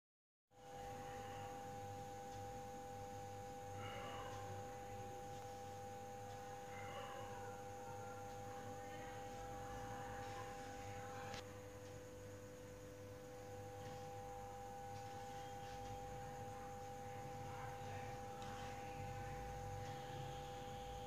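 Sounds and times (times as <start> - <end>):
electrical hum with whining tones: 0.5 - 21.0.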